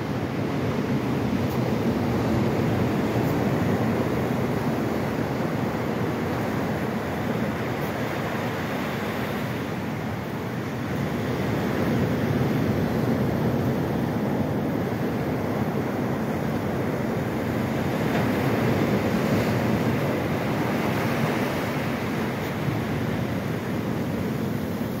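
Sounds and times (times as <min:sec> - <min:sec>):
ocean surf breaking on beach: 0:00.0 - 0:25.0.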